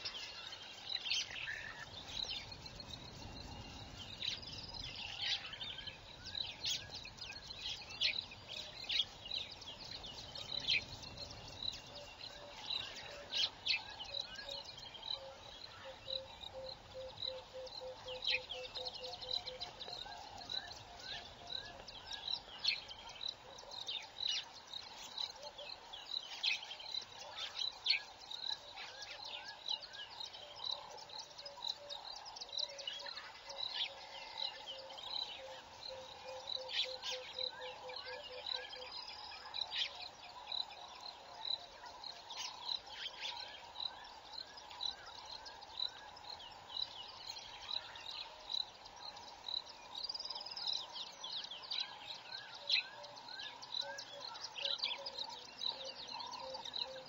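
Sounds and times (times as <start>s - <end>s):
bird chirps: 0.0s - 57.0s.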